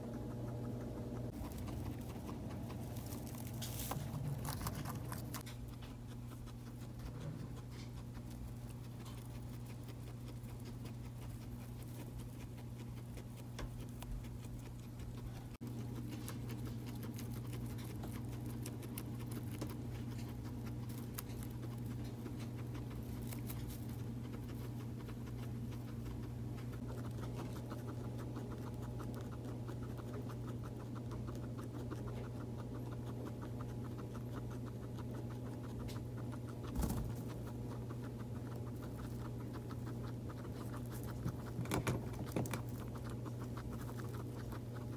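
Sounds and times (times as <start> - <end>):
guinea pig chewing hay: 0.0 - 44.9
steady low hum: 0.0 - 44.9.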